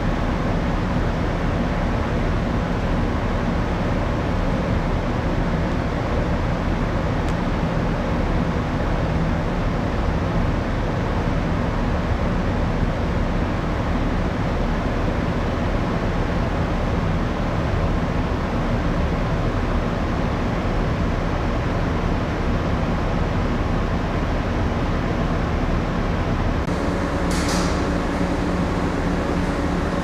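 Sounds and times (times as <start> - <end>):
machinery and ventilation hum: 0.0 - 30.0.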